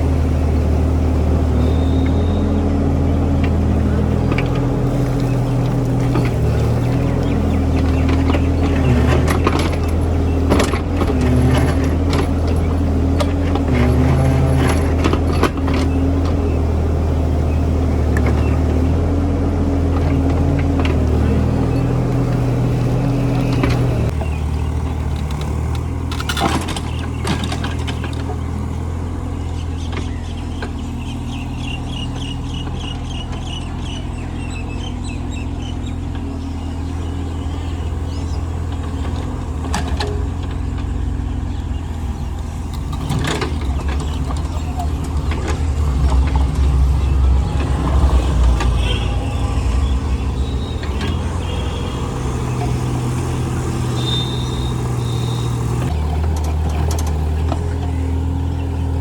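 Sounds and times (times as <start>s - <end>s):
excavator diesel engine running: 0.0s - 59.0s
digging knocks and clatter: 2.8s - 34.1s, 35.2s - 59.0s.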